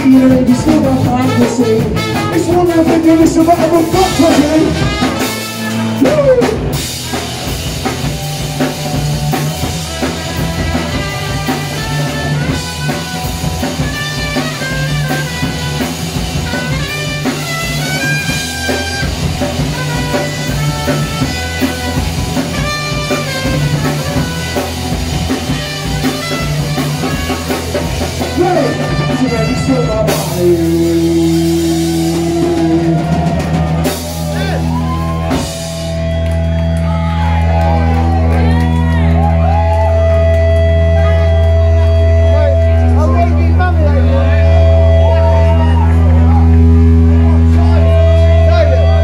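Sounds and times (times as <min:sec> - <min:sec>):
bass guitar: 0:00.0 - 0:49.0
drum kit: 0:00.0 - 0:49.0
electric guitars: 0:00.0 - 0:49.0.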